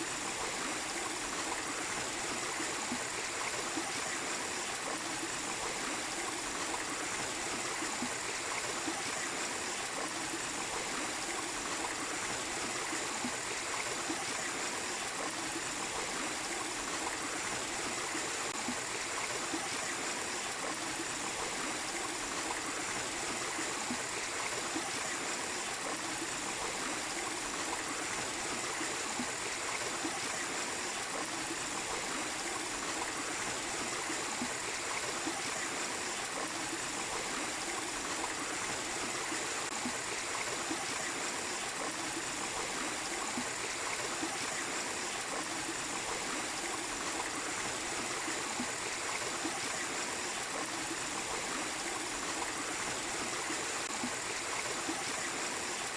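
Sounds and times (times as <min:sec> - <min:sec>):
small waterfall rushing: 0:00.0 - 0:55.9.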